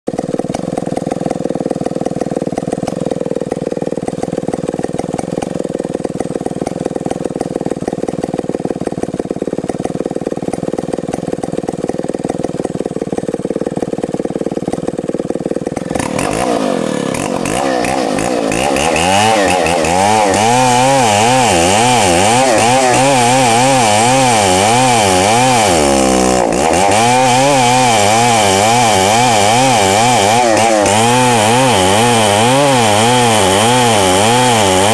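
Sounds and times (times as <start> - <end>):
chainsaw idling and revving: 0.1 - 34.9.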